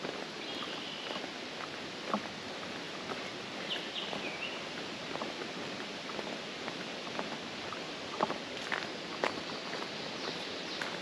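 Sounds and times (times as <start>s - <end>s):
footsteps on gravel trail: 0.0s - 11.0s.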